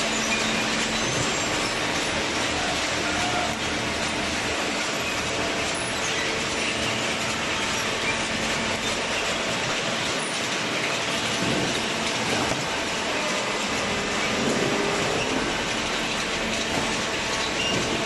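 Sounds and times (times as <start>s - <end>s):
baling machine clattering: 0.1s - 18.0s.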